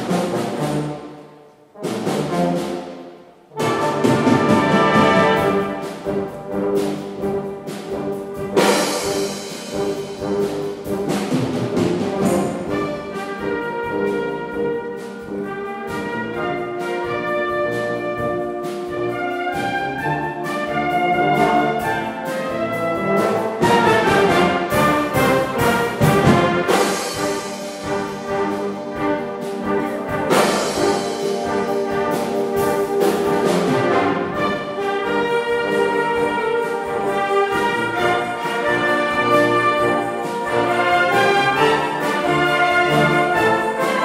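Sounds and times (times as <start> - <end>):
wind orchestra with brass: 0.0 - 44.0.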